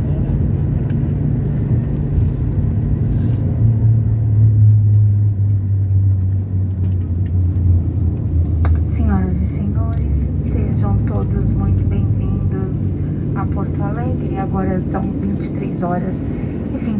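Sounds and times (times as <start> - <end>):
aircraft engines rumbling: 0.0 - 16.9.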